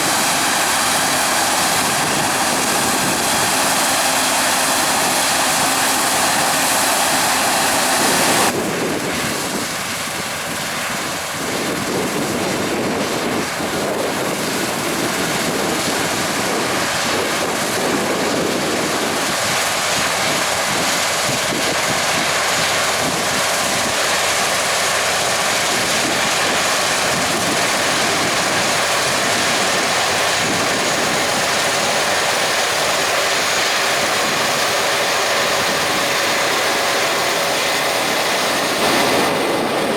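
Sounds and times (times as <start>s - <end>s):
heavy machinery running: 0.0s - 8.8s, 14.6s - 39.9s.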